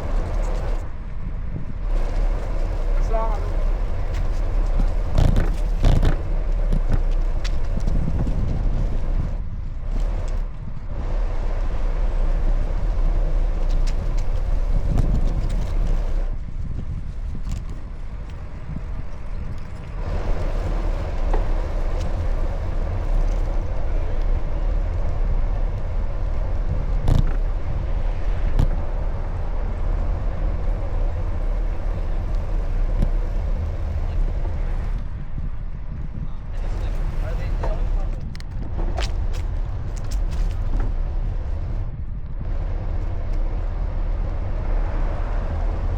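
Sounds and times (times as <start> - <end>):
bicycle road noise: 0.0 - 45.9
wind buffeting microphone: 0.0 - 45.9.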